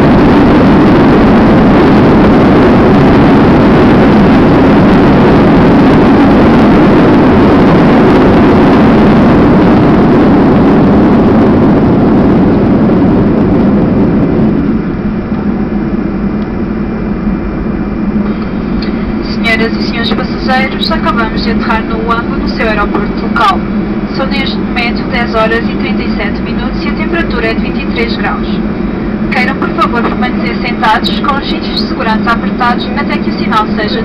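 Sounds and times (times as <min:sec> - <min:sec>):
jet engines and runway rumble: 0:00.0 - 0:34.0.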